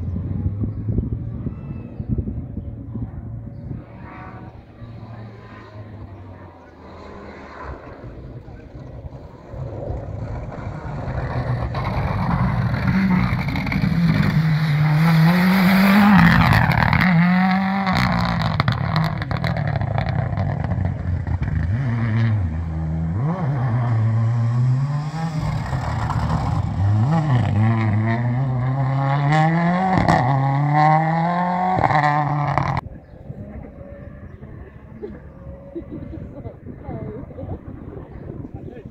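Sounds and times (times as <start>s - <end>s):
rally car engine revving: 3.3s - 38.9s.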